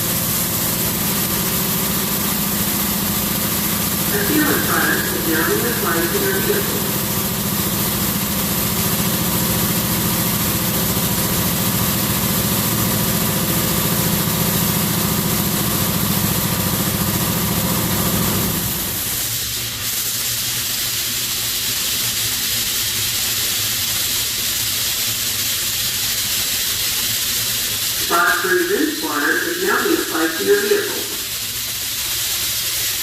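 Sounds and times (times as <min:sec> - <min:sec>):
spray hiss: 0:00.0 - 0:33.0.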